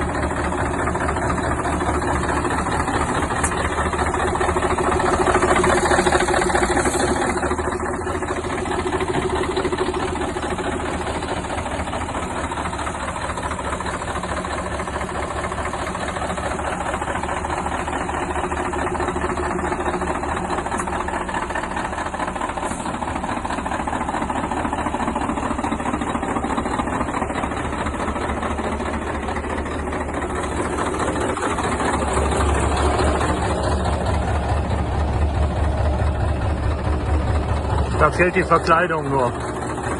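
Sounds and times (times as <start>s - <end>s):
car engine idling with tapping: 0.0s - 39.9s.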